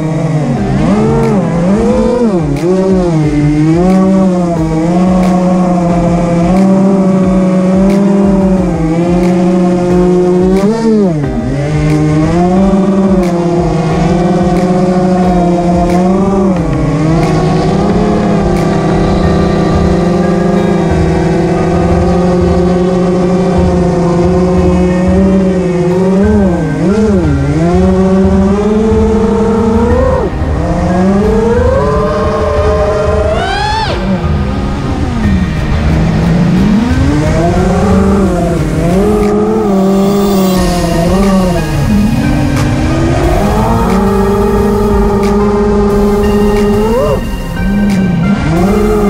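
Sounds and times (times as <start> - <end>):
quadcopter motors whining: 0.0 - 49.0.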